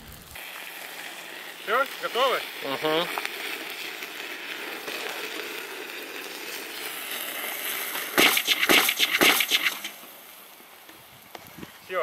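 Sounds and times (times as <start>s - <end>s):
hot oil sputtering: 0.0s - 11.2s
hot oil hissing: 0.0s - 12.0s.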